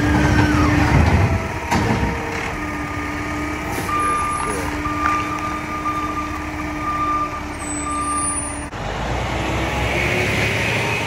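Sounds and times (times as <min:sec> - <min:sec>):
deep engine rumble: 0:00.0 - 0:10.2
garbage truck engine whining: 0:00.0 - 0:11.0.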